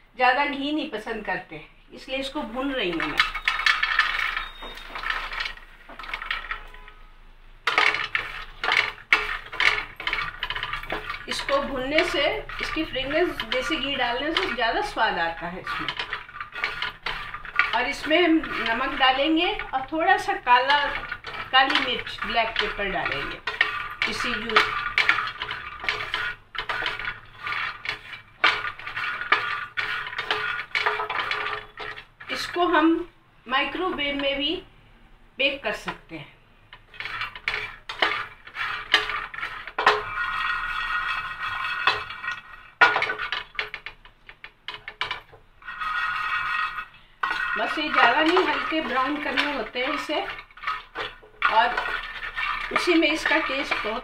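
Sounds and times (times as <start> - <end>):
spatula scraping metal pan: 2.4 - 7.0, 7.7 - 32.8, 36.7 - 54.0
seeds rattling into metal pan: 2.8 - 7.0, 7.7 - 32.4, 36.9 - 54.0.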